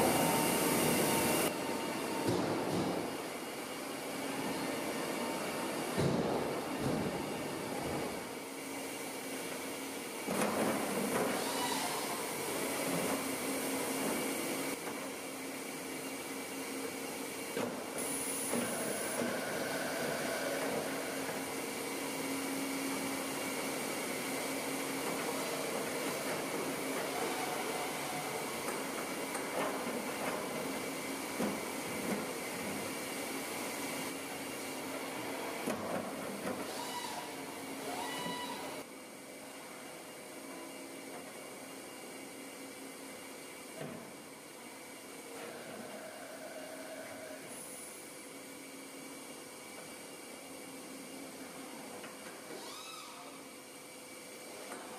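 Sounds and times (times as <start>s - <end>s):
machinery humming: 0.0s - 54.9s.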